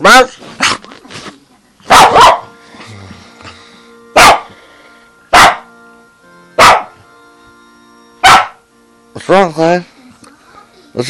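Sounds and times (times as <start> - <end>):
background music: 2.0 - 11.0.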